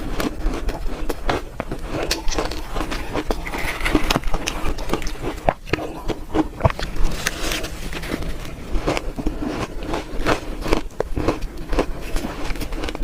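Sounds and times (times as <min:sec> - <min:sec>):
shaved ice crunching when chewed: 0:00.0 - 0:13.0.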